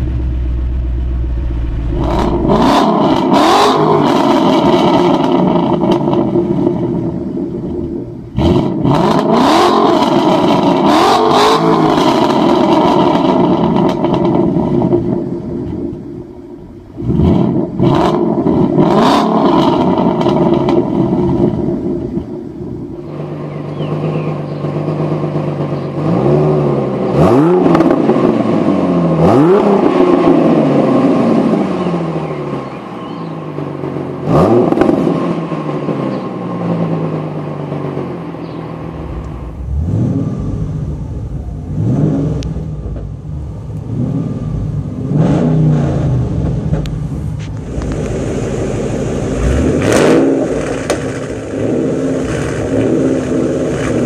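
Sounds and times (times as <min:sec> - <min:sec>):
car engine idling: 0:00.0 - 0:54.0
car engine revving: 0:00.0 - 0:54.0.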